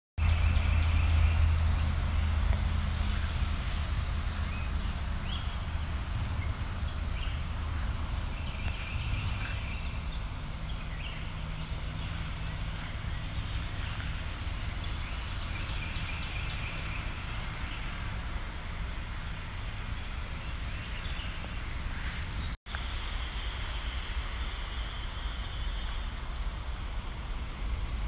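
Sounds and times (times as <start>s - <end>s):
steady low rumble: 0.2s - 28.0s
high-pitched insect whine: 0.6s - 28.0s.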